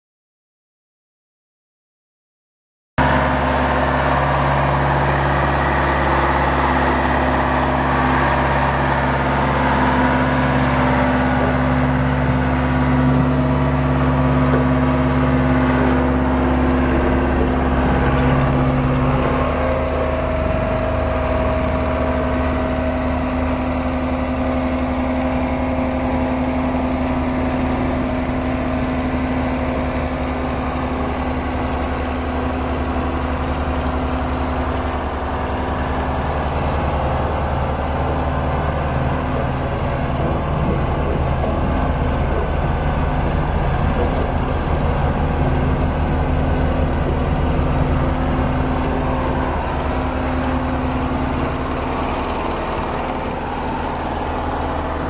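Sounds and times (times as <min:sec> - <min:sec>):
large engine running steadily: 0:03.0 - 0:55.0.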